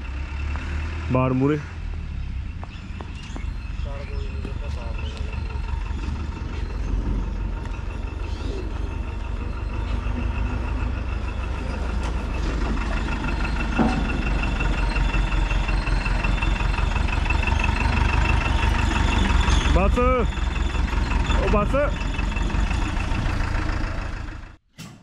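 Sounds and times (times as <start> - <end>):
truck engine running: 0.0 - 24.6.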